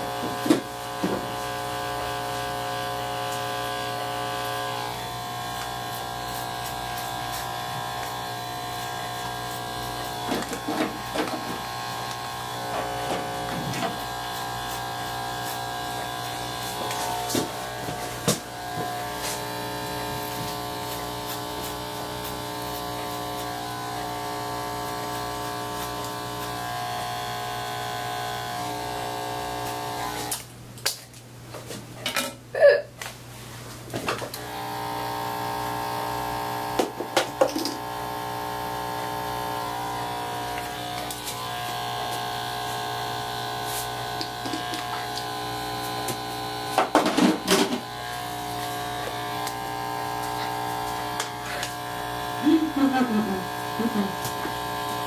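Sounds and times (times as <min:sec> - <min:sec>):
electric hair clippers buzzing: 0:00.0 - 0:30.5, 0:34.2 - 0:55.0.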